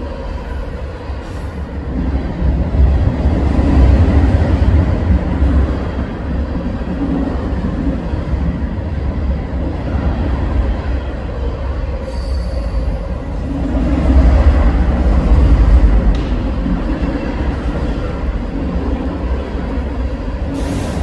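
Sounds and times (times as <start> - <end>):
freight train clattering over rails: 0.0 - 21.0.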